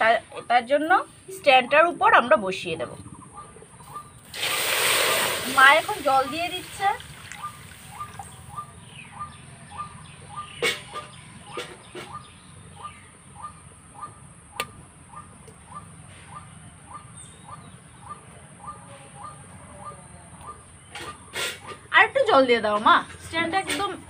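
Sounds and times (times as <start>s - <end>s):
bird chirping: 0.0s - 4.6s, 7.2s - 21.9s.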